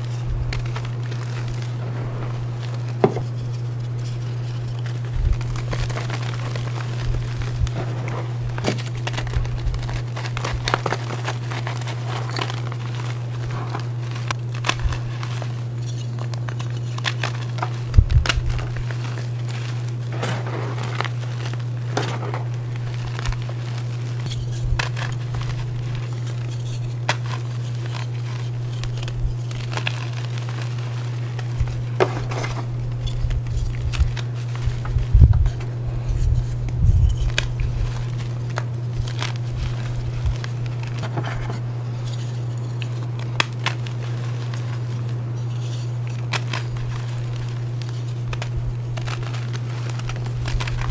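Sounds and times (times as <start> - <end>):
chalk crunching in hands: 0.0 - 50.9
steady low hum: 0.0 - 50.9.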